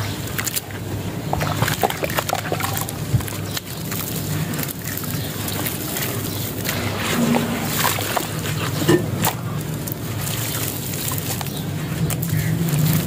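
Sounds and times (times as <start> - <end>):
gritty sand crackles: 0.0 - 13.0
water sloshing and splashing: 0.0 - 13.0.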